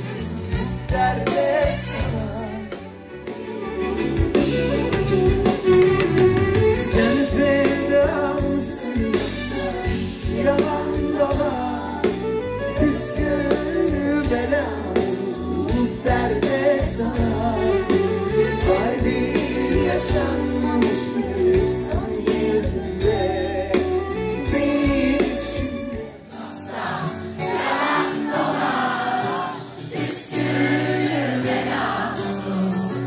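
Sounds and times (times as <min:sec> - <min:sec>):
backing vocalists: 0:00.0 - 0:03.0, 0:06.7 - 0:33.0
male lead singer: 0:00.0 - 0:03.2, 0:06.6 - 0:33.0
live pop band playing: 0:00.0 - 0:33.0.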